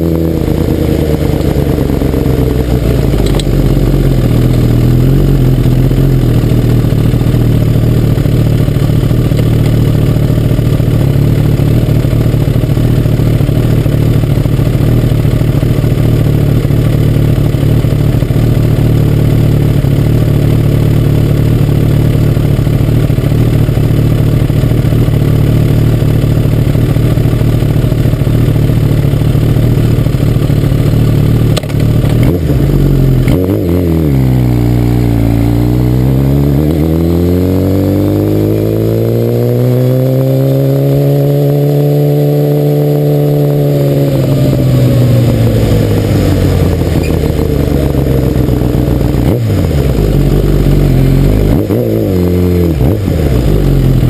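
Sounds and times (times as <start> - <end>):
motorcycle engine idling: 0.0 - 37.0, 43.3 - 54.0.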